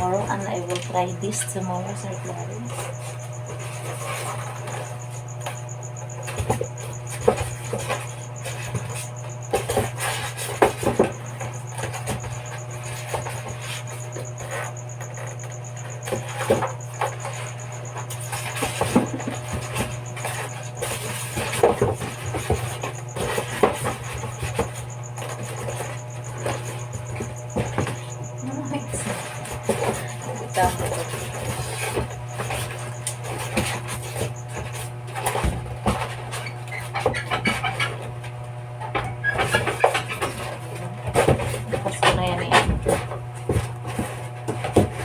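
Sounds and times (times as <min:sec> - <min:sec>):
knocks and rustles of packing: 0:00.0 - 0:45.0.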